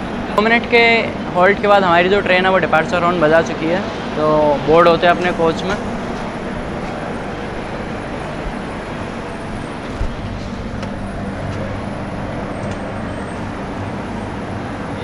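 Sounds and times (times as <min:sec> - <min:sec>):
train rumble and low hum: 0:00.0 - 0:15.0.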